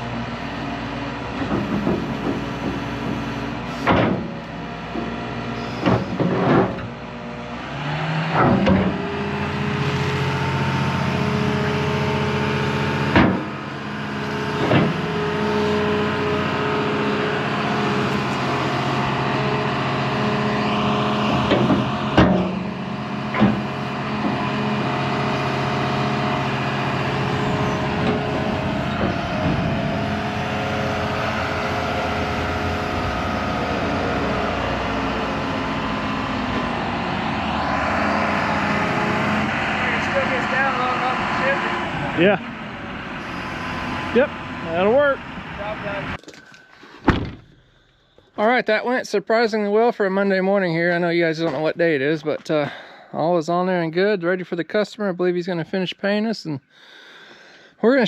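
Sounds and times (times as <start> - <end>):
excavator diesel engine running: 0.0 - 54.8.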